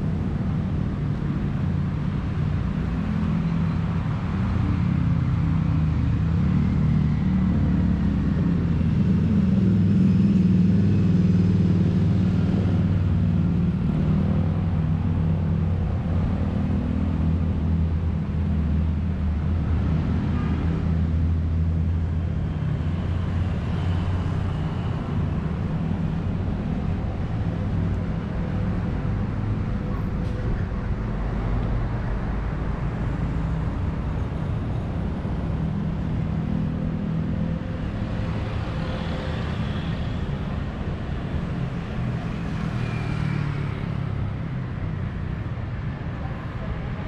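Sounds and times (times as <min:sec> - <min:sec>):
traffic rumble: 0:00.0 - 0:47.0
vehicles passing by: 0:00.0 - 0:47.0.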